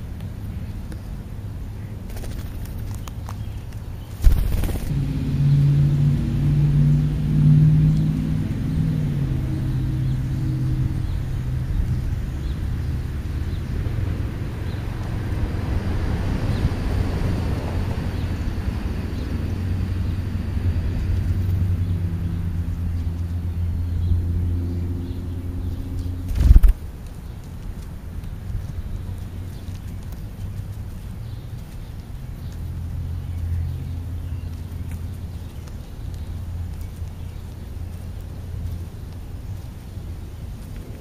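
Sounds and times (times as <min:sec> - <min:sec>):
steady low rumble: 0:00.0 - 0:41.0
vehicle engine humming: 0:04.0 - 0:41.0.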